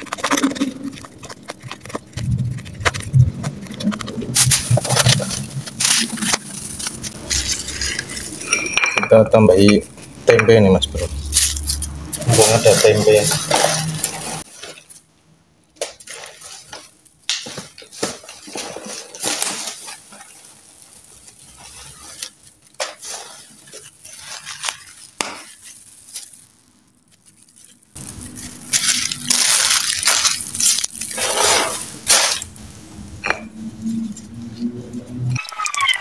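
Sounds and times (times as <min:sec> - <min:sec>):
crumbly crushing: 0:00.0 - 0:08.5, 0:10.5 - 0:15.1, 0:15.7 - 0:32.7.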